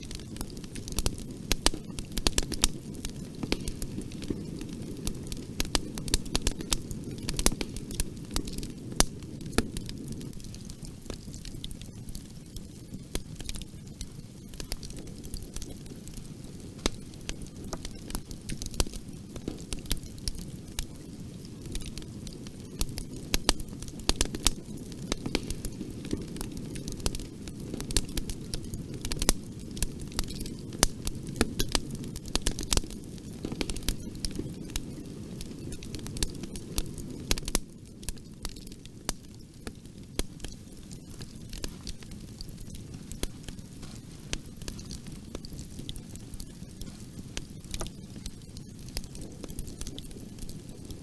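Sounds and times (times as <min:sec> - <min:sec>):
fire crackling and popping: 0:00.0 - 0:51.0
low rumble of flames: 0:00.0 - 0:51.0.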